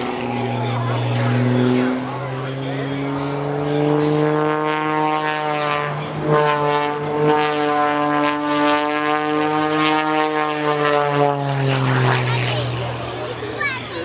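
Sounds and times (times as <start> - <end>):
propeller aircraft engine droning: 0.0 - 14.0.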